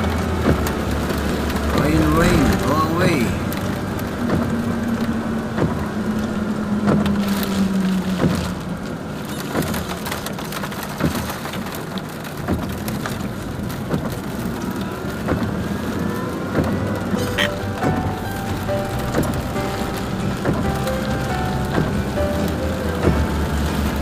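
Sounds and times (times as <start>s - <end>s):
car engine hum: 0.0s - 24.0s
rain tapping on car: 0.0s - 24.0s
tyres on wet road: 0.0s - 24.0s.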